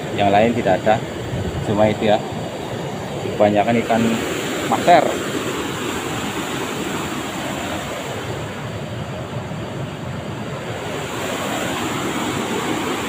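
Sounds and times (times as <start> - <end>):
river rushing through rapids: 0.0 - 13.0.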